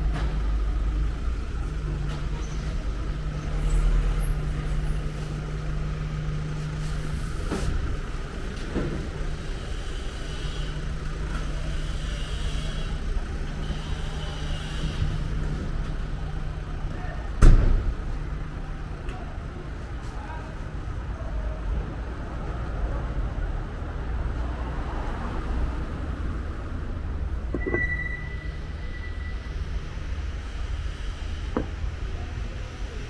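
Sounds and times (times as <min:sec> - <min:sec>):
street traffic: 0:00.0 - 0:33.0
vehicle engine humming: 0:00.0 - 0:33.0.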